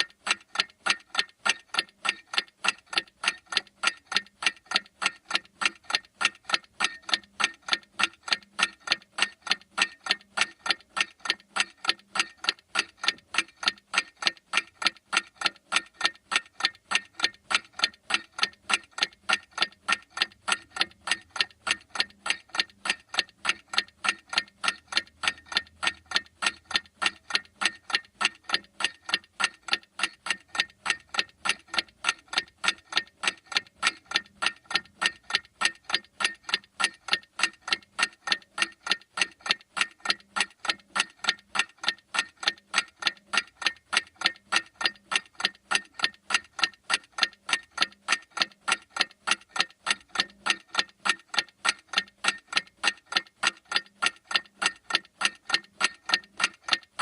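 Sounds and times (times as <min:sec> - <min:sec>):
mechanical clock ticking: 0:00.0 - 0:57.0.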